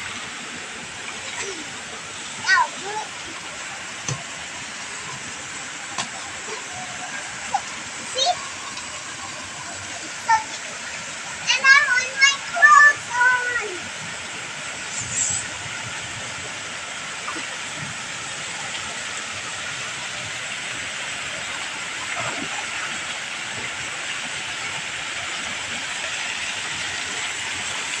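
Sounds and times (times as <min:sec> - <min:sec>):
fountain water rushing: 0:00.0 - 0:28.0.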